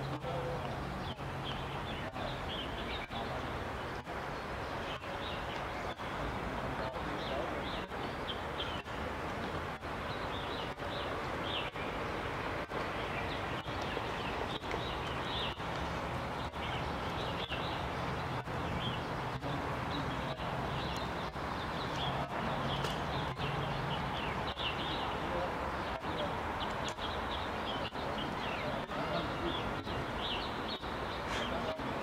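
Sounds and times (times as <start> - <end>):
steady background noise: 0.0 - 32.0.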